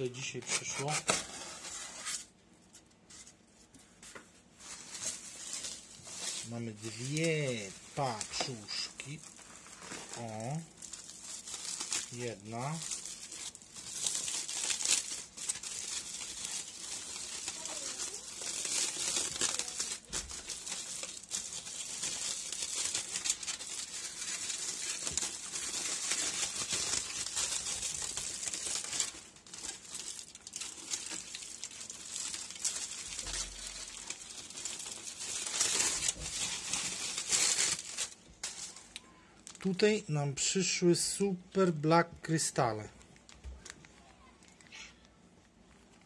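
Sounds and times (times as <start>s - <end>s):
foil and bubble wrap crinkling: 0.0s - 46.0s.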